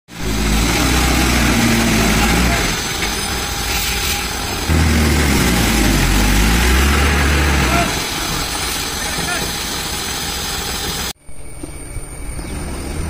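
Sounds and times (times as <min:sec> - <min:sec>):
truck diesel engine working hard: 0:00.1 - 0:11.2.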